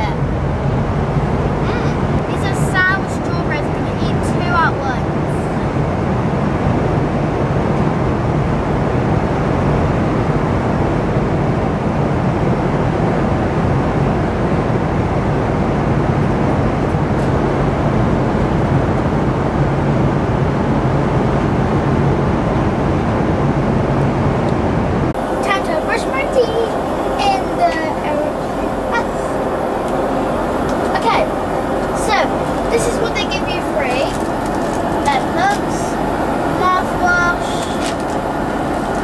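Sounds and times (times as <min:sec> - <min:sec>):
jet airliner cabin drone: 0:00.0 - 0:39.0.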